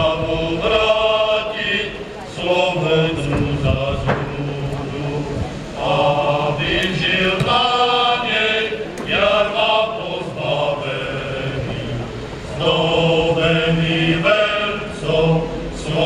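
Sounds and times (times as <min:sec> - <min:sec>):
group singing a hymn: 0:00.0 - 0:16.0.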